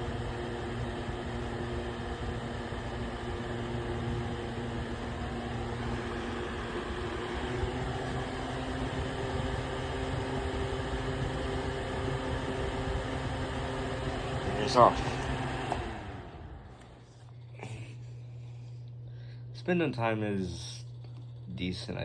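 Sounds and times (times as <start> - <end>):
desk fan air rushing: 0.0 - 18.1
fan motor hum: 0.0 - 22.0.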